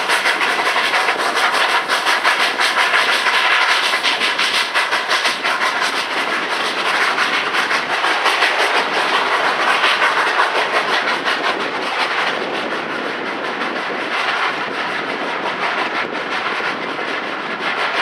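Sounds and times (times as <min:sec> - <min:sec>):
train wheels clacking over rail joints: 0:00.0 - 0:18.0.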